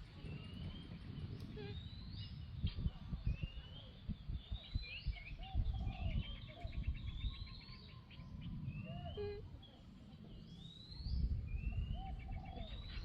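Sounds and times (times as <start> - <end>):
birds whistling calls: 0.3 - 13.0.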